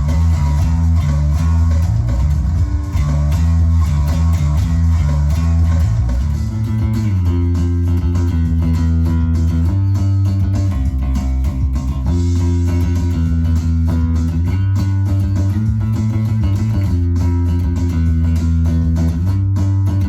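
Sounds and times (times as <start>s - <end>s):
electric bass guitar: 0.0s - 20.0s.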